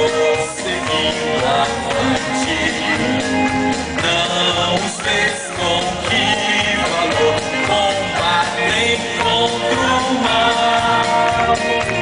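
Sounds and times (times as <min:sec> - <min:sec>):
man singing into a microphone: 0:00.0 - 0:11.4
gospel band with steady beat: 0:00.0 - 0:12.0.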